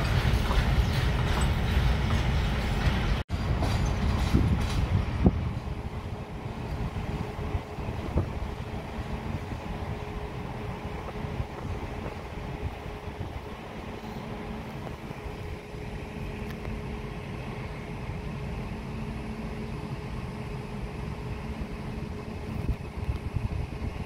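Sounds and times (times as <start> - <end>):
distant train rumble: 0.0 - 24.0.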